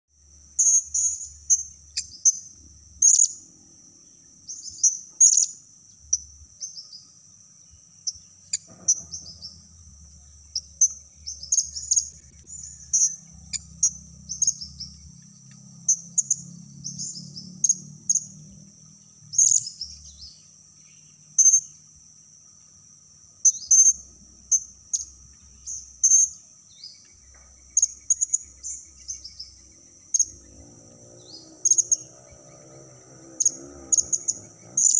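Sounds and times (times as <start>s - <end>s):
high insect drone: 0.1s - 34.9s.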